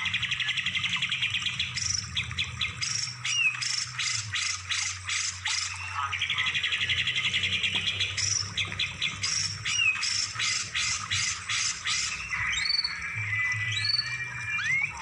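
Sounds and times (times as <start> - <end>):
bird trill: 0.0 - 15.0
songbird singing: 0.0 - 15.0.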